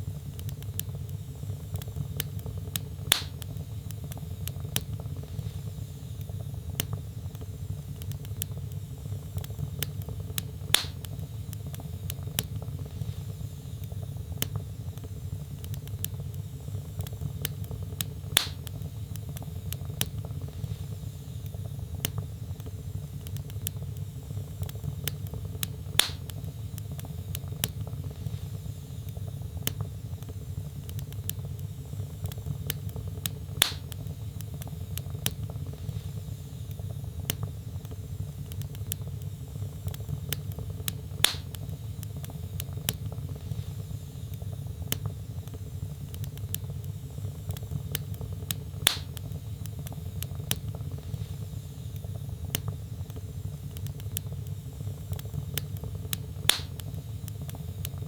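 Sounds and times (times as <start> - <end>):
fire popping: 0.0 - 58.0
wood fire rumbling and crackling: 0.0 - 58.0.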